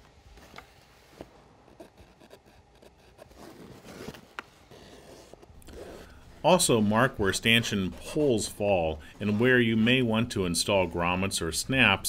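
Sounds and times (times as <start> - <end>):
pencil scraping on canvas: 1.6 - 12.0.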